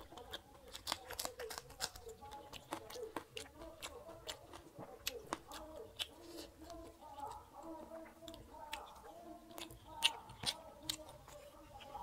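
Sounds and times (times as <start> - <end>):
person chewing and lip smacking: 0.0 - 12.0.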